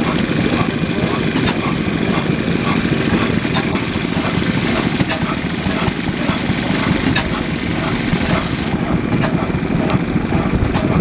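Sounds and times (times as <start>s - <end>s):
oil engine running with clicks: 0.0s - 11.0s.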